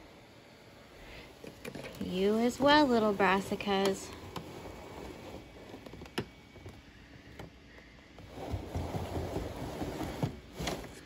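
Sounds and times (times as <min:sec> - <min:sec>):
faint rustling and handling: 0:01.0 - 0:11.0.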